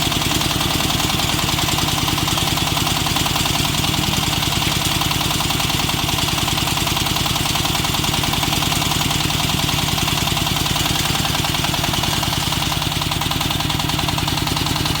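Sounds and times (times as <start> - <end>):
drilling rig engine running: 0.0 - 15.0.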